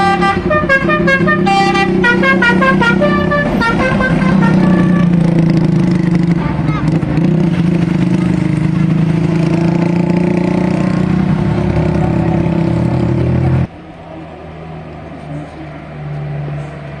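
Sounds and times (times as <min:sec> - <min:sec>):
heavy vehicle engine drone: 0:00.0 - 0:17.0
road noise: 0:00.0 - 0:17.0.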